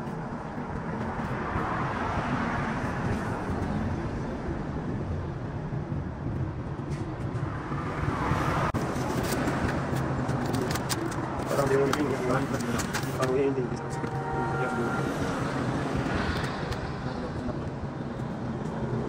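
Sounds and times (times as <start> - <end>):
passing traffic: 0.0 - 19.0.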